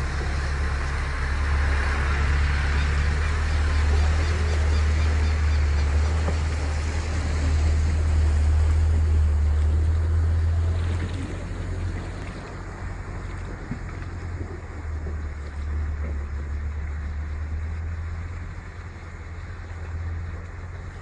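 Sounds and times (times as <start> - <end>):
low engine rumble: 0.0 - 21.0
water spraying from vehicle: 0.0 - 21.0.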